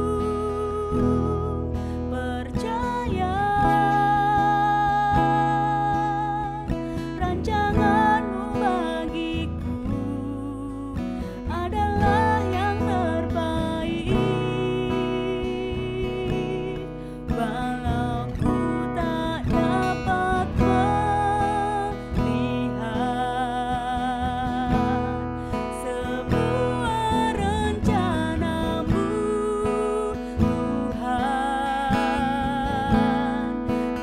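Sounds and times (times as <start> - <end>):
strummed acoustic guitar: 0.0 - 34.0
woman singing: 0.0 - 34.0.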